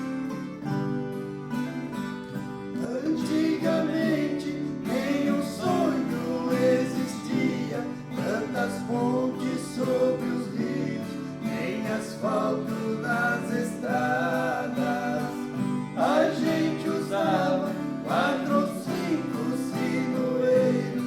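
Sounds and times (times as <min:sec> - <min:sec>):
plucked string instruments: 0:00.0 - 0:21.0.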